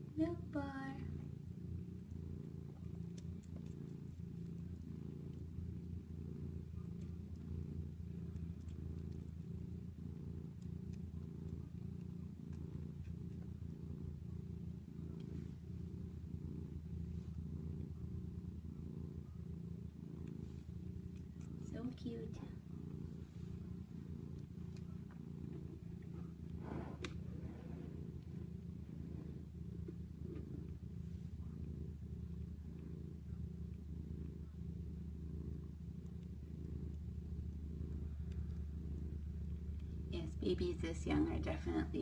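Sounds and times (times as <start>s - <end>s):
cat purring: 0.0s - 42.0s.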